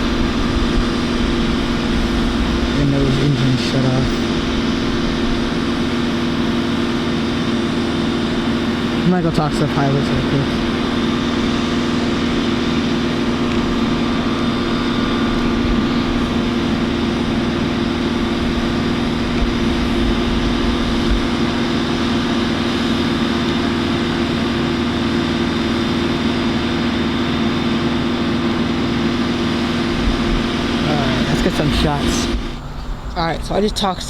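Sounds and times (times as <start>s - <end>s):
engine drone: 0.0s - 34.0s.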